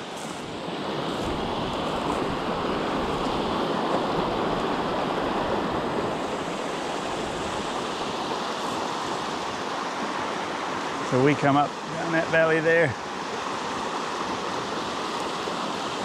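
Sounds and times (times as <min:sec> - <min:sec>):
river flowing over stones: 0:00.0 - 0:16.0.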